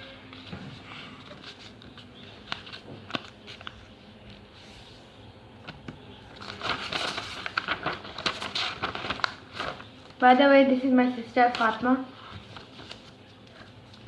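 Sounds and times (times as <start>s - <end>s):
paper tapping and crinkling: 0.3s - 4.5s, 5.6s - 10.5s, 11.1s - 14.0s
paper rustling: 0.3s - 10.4s, 11.1s - 14.0s.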